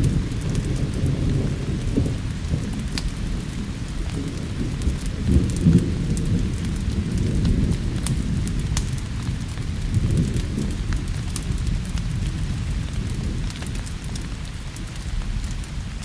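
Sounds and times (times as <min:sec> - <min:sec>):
rolling thunder rumbling: 0:00.0 - 0:16.0
steady rain: 0:00.0 - 0:16.0
wood fire crackling: 0:00.0 - 0:16.0.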